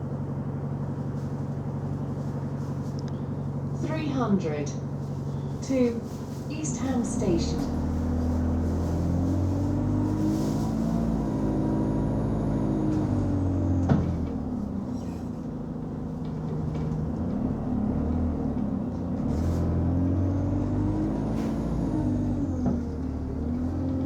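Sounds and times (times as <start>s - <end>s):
bus diesel engine drone: 0.0s - 24.0s.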